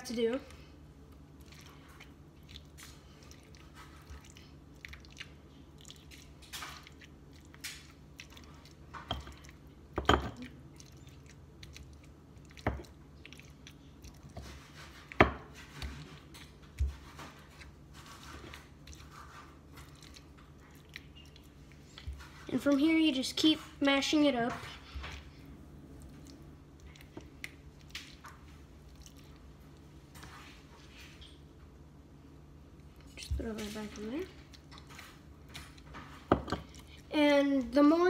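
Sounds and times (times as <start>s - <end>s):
wet squishing of mashed food: 0.0s - 38.0s.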